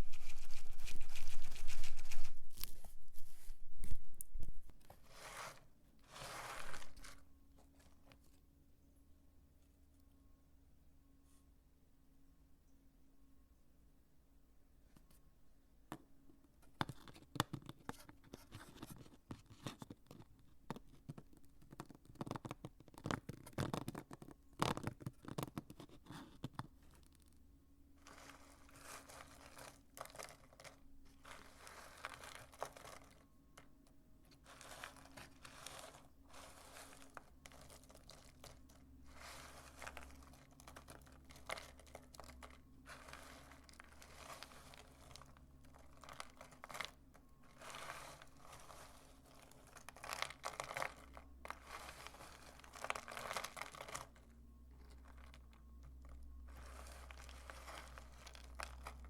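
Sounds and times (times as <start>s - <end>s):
dry soap crunching: 0.0s - 8.3s, 16.8s - 59.0s.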